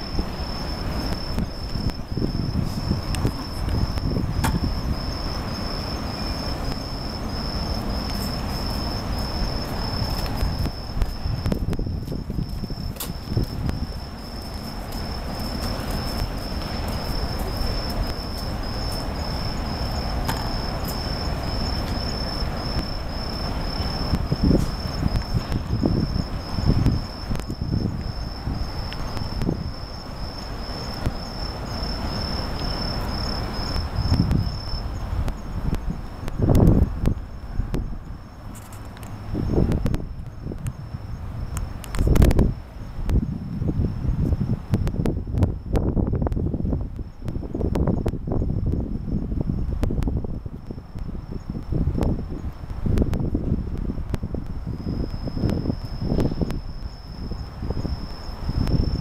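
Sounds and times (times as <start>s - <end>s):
crickets trilling: 0.0s - 59.0s
steady low rumble: 0.0s - 59.0s.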